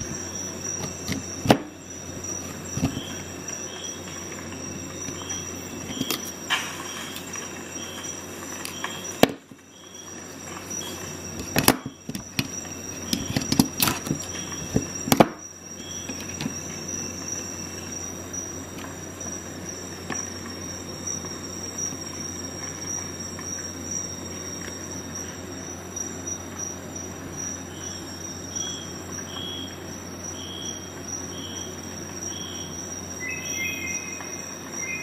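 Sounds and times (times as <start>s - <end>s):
constant high whine: 0.0s - 35.0s.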